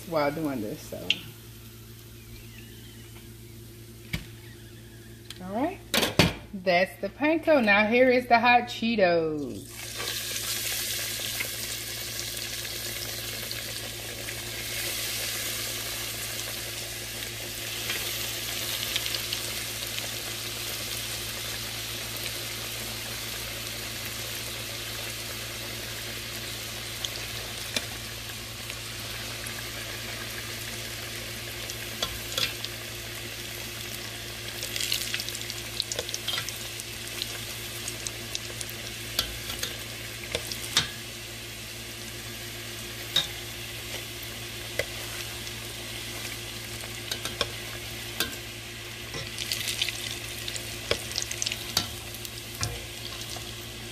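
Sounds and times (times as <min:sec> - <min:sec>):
deep-frying oil sizzling and bubbling: 0:00.0 - 0:05.2, 0:09.2 - 0:53.9.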